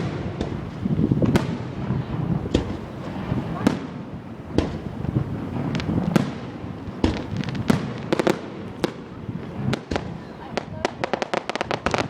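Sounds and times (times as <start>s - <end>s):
distant fireworks rumble: 0.0s - 12.0s
fireworks bangs: 0.0s - 12.0s.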